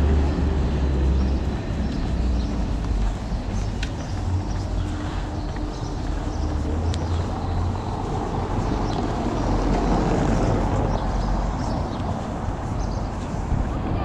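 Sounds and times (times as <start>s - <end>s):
car driving on cobblestones: 0.0s - 14.0s.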